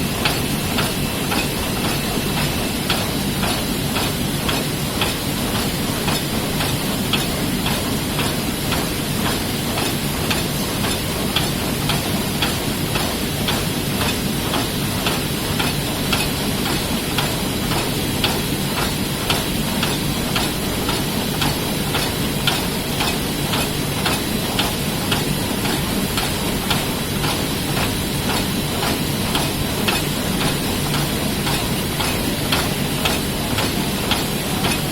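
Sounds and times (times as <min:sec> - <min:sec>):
printing press mechanical drone: 0:00.0 - 0:34.9
rhythmic clatter of clicks: 0:00.0 - 0:34.9.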